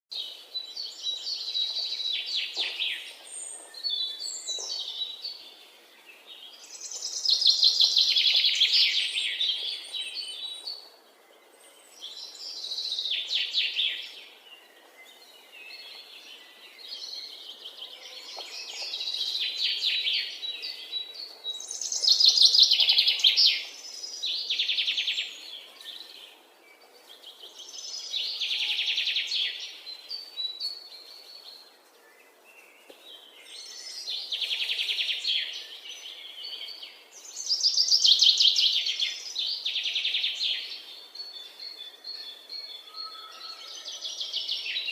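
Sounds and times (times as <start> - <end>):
faint background hiss: 0.2 - 42.9.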